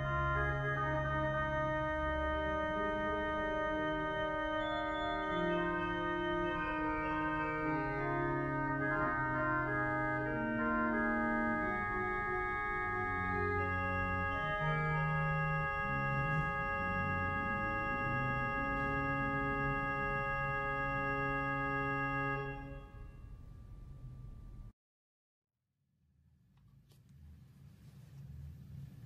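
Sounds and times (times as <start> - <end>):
pipe organ playing slowly: 0.0 - 24.7.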